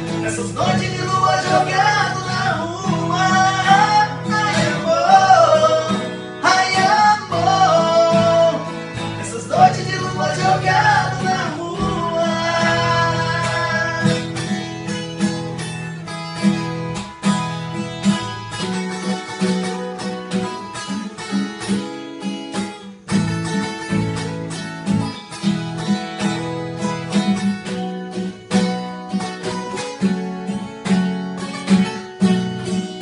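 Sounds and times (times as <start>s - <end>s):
acoustic guitars playing: 0.0s - 33.0s.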